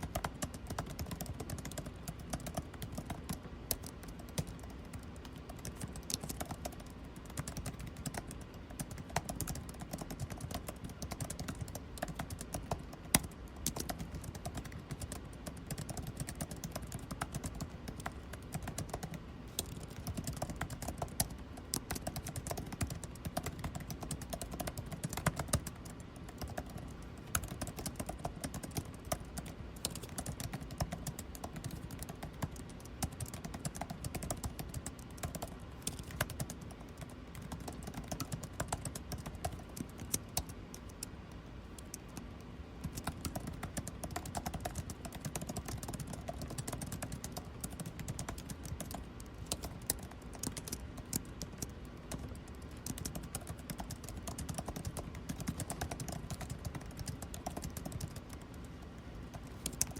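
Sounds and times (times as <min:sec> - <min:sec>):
air-conditioning hum: 0:00.0 - 0:59.9
computer keyboard typing: 0:00.0 - 0:59.9.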